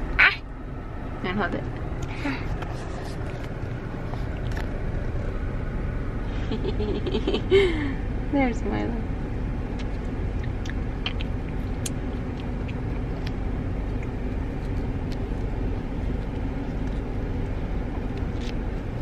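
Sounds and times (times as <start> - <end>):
car interior low rumble: 0.0 - 19.0
faint steady hum: 0.0 - 19.0.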